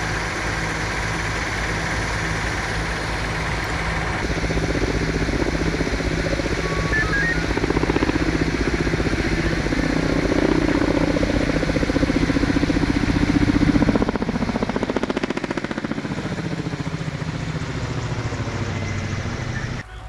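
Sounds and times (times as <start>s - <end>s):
helicopter rotor beating: 0.0s - 19.8s
helicopter engine whine: 0.0s - 20.0s.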